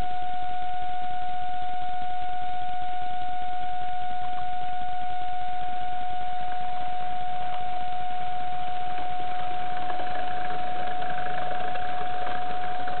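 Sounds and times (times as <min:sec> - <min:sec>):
model train high whine: 0:00.0 - 0:13.0.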